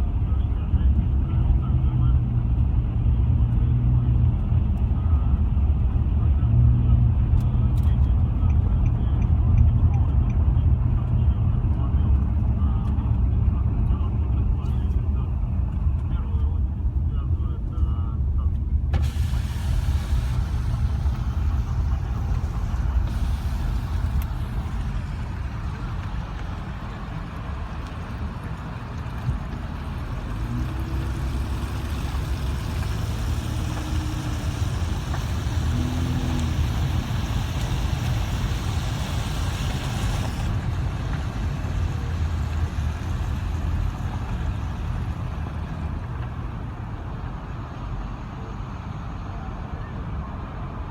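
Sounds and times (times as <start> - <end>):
highway traffic rumble: 0.0 - 50.9.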